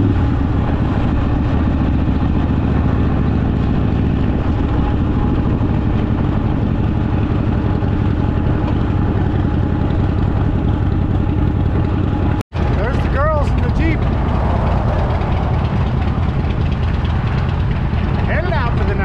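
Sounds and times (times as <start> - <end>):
motorcycle engine cruising: 0.0 - 19.0
road and wind noise: 0.0 - 19.0.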